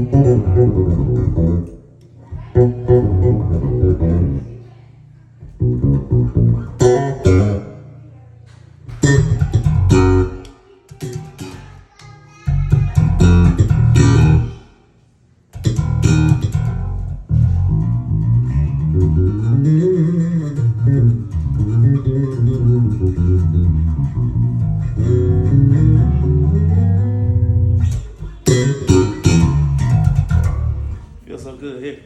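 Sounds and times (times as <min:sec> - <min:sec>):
electric bass playing: 0:00.0 - 0:04.7, 0:05.4 - 0:08.2, 0:08.8 - 0:11.8, 0:12.5 - 0:14.6, 0:15.5 - 0:31.3.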